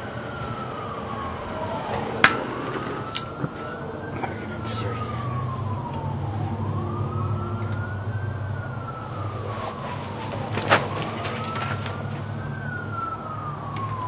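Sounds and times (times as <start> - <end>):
siren wailing: 0.0 - 14.0.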